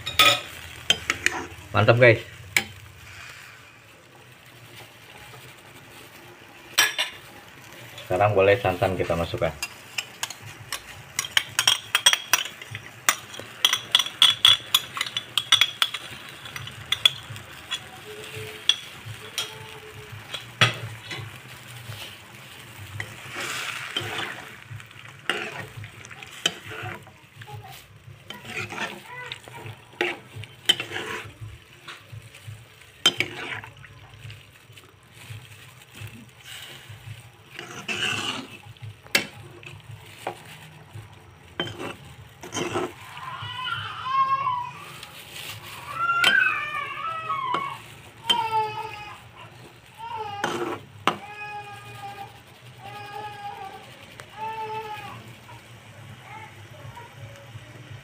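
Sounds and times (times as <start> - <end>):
stirred food swishing: 0.0 - 56.6.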